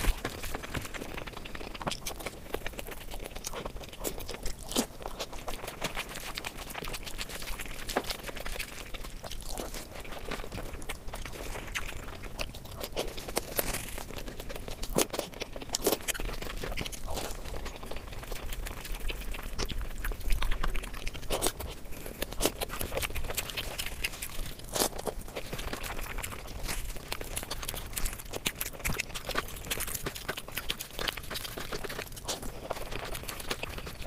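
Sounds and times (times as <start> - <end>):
woman chewing food: 0.0 - 34.0.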